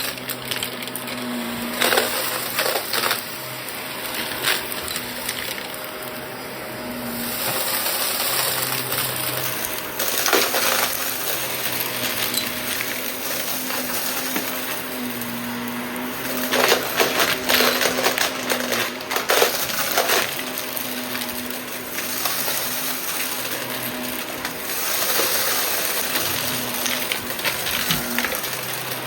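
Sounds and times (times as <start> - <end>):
debris crackling in vacuum: 0.0 - 29.0
vacuum cleaner humming: 0.0 - 29.0.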